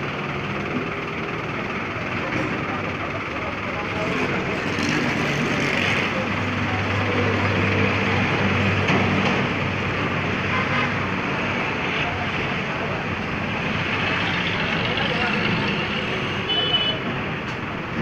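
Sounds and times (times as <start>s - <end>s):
traffic noise: 0.0s - 18.0s
vehicle engine drone: 0.0s - 18.0s.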